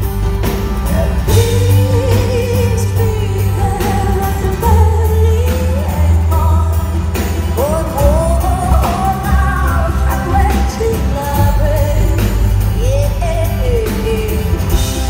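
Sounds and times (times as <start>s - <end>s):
band with heavy bass: 0.0s - 15.0s
person singing: 0.8s - 15.0s.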